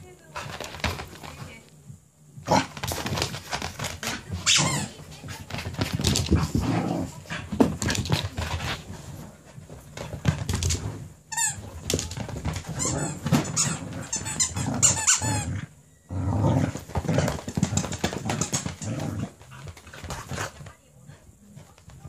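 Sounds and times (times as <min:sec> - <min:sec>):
dog paws scrabbling on wooden floor: 0:00.0 - 0:01.8, 0:02.5 - 0:15.4, 0:16.6 - 0:22.0.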